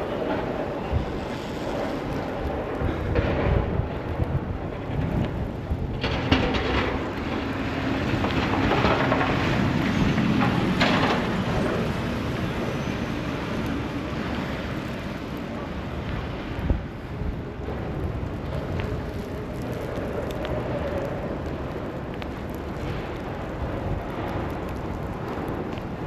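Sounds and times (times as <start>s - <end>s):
passing vehicles rumbling: 0.0s - 26.0s
wind buffeting microphone: 0.0s - 26.0s.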